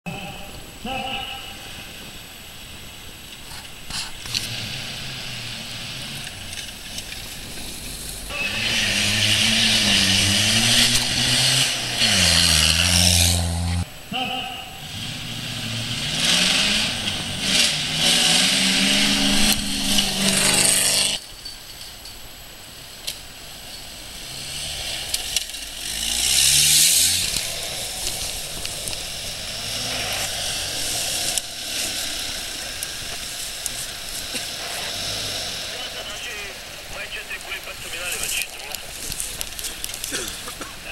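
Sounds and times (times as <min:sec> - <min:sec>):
off-road engines revving: 0:00.1 - 0:21.3, 0:23.3 - 0:40.9.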